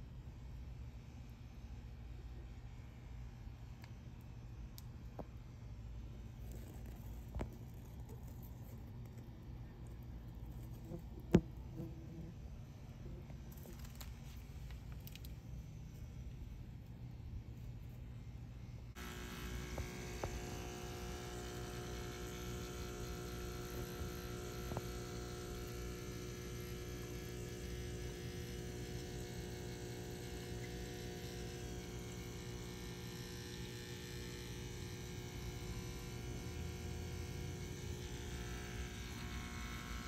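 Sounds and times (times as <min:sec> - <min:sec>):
electric buzzing hum: 0:00.7 - 0:40.0.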